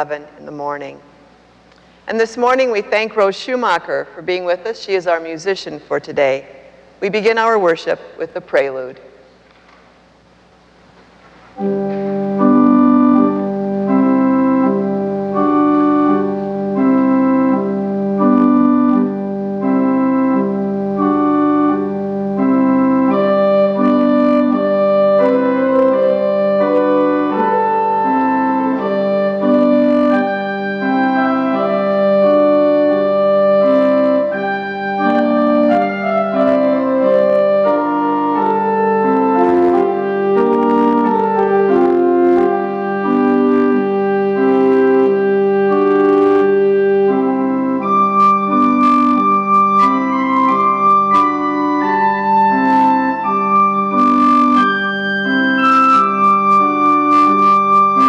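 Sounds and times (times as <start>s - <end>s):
pipe organ playing: 0.0s - 58.0s.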